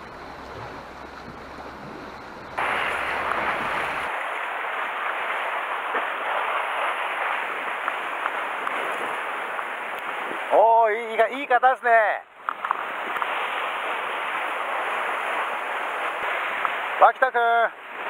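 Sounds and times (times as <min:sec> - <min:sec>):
sea surf washing against rocks: 0:00.0 - 0:18.0.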